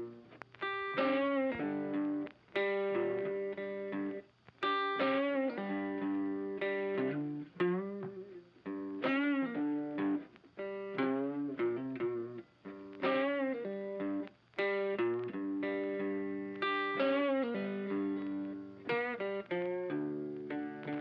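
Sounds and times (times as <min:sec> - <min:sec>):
electric guitar melody: 0:00.0 - 0:21.0.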